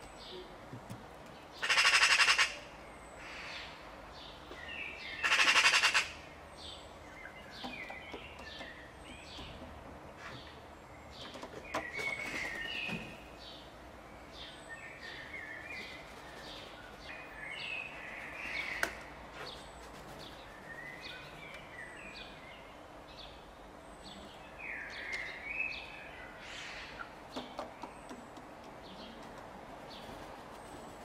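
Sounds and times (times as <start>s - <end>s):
birds chirping: 0.0s - 31.0s
faint outdoor background: 0.0s - 31.0s.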